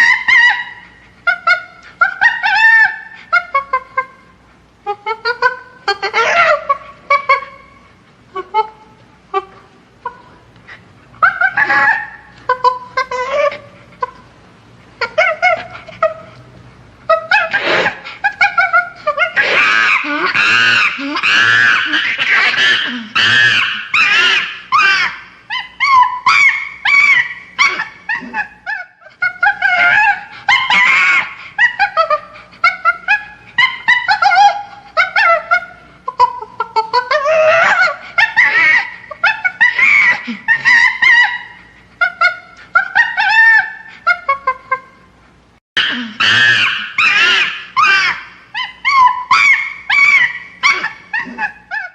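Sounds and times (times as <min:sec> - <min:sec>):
chimpanzee squealing calls: 0:00.0 - 0:04.2, 0:05.0 - 0:09.5, 0:10.1 - 0:14.2, 0:17.1 - 0:45.0, 0:45.8 - 0:51.9.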